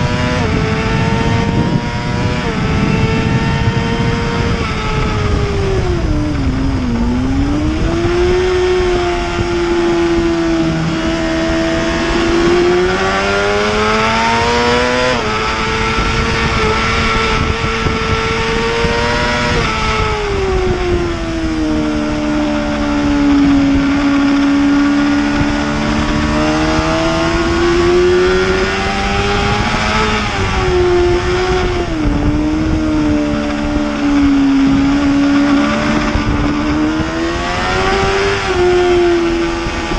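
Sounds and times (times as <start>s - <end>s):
motorcycle engine racing: 0.0s - 39.9s
steady rushing noise: 0.0s - 39.9s.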